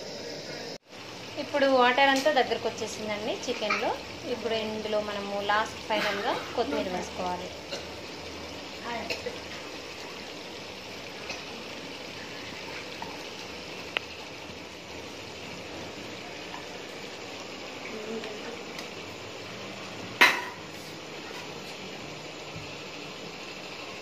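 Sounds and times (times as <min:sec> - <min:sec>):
curry simmering in metal pot: 0:00.3 - 0:24.0.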